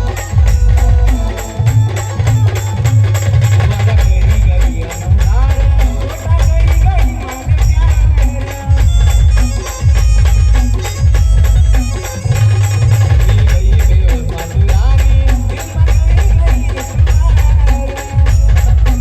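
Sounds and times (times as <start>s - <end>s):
booming bass drum beat: 0.0s - 19.0s
jingling percussion: 0.0s - 19.0s
live band playing: 0.0s - 19.0s.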